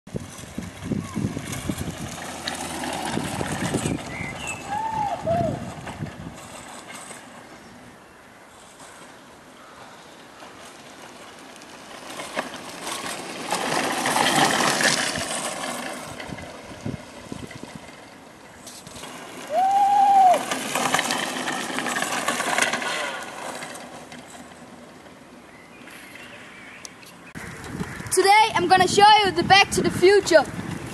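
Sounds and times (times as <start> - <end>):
go-kart driving past: 0.2 - 28.5.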